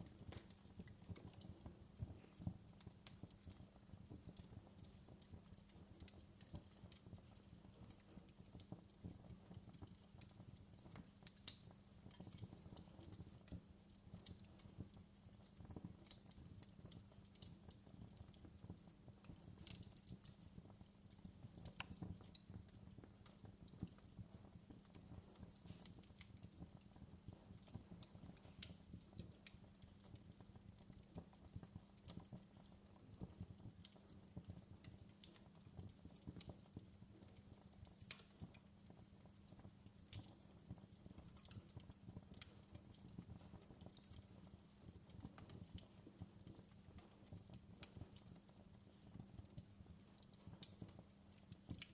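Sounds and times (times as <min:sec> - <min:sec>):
fire crackling and popping: 0:00.0 - 0:51.9.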